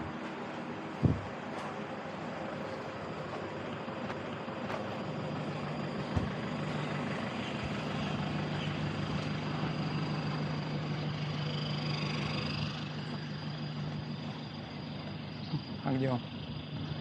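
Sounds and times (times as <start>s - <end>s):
engine idling hum: 0.0s - 17.0s.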